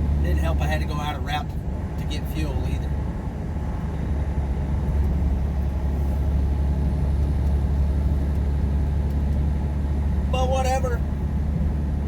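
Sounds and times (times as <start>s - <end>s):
road noise inside cab: 0.0s - 12.0s.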